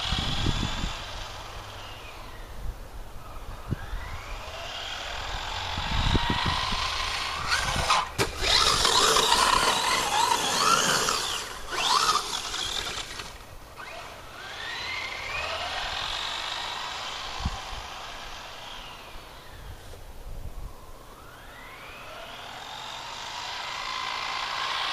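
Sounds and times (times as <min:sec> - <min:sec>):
rc truck motor whining: 0:00.0 - 0:02.6, 0:03.2 - 0:20.0, 0:21.1 - 0:24.9.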